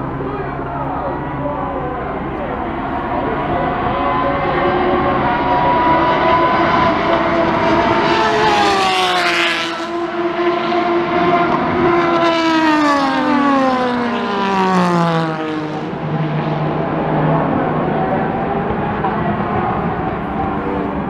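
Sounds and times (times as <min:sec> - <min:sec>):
race cars passing at speed: 0:00.0 - 0:21.0.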